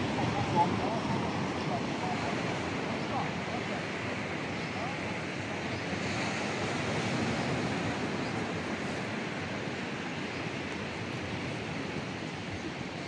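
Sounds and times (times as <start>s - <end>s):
sea surf rushing: 0.0s - 13.0s
wind: 0.0s - 13.0s.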